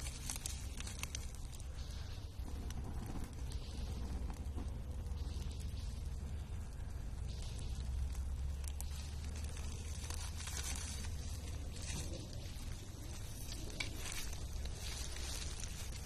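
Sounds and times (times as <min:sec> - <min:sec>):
burning leaves crackling: 0:00.0 - 0:16.0
steady low rumble: 0:00.0 - 0:16.0.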